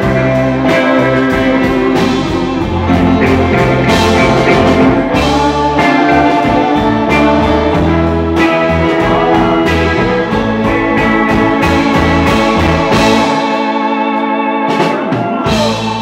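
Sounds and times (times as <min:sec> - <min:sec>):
drum kit beat: 0:00.0 - 0:16.0
electric guitar: 0:00.0 - 0:16.0
electric organ: 0:00.0 - 0:16.0.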